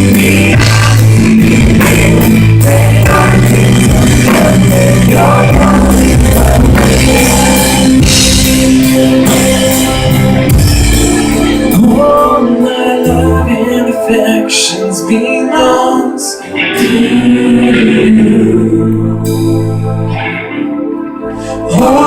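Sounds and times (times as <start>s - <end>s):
band playing worship music: 0.0s - 22.0s.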